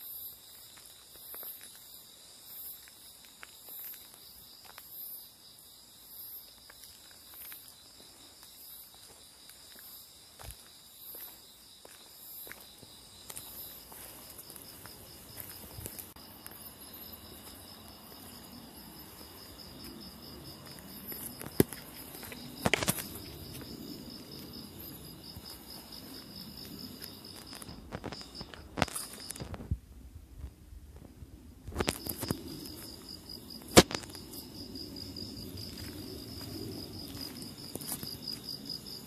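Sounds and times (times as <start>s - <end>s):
night insects chirping: 0.0s - 39.0s.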